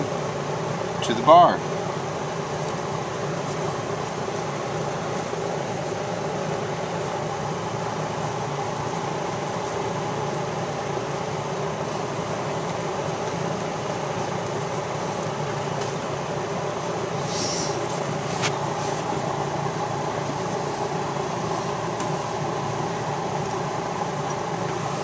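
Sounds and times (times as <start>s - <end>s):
machine humming and hissing: 0.0s - 25.0s.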